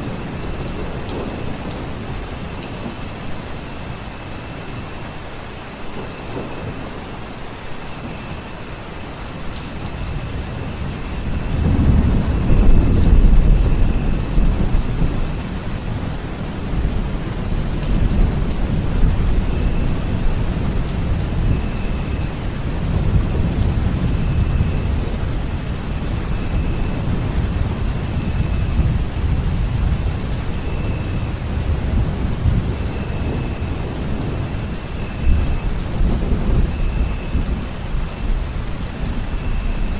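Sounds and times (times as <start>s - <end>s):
thunder rolling rumble: 0.0s - 4.5s, 9.4s - 39.9s
steady rain: 0.0s - 39.9s.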